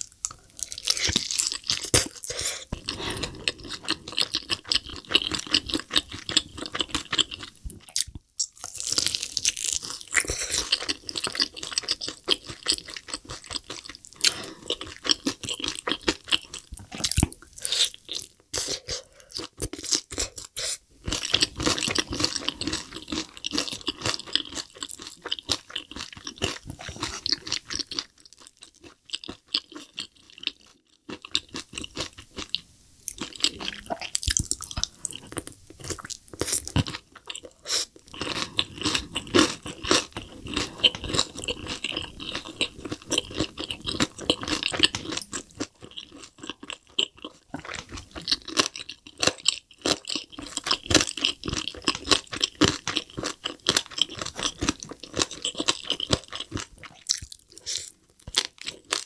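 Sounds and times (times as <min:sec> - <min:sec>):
crunching and chewing fried chicken: 0:00.0 - 0:59.0.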